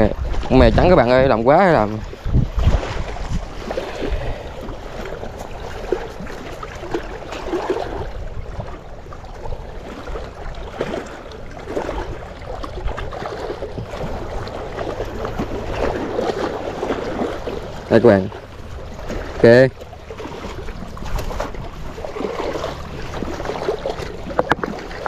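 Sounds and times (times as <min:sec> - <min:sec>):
lake water lapping at shore: 0:00.0 - 0:25.0
wind buffeting microphone: 0:00.0 - 0:25.0.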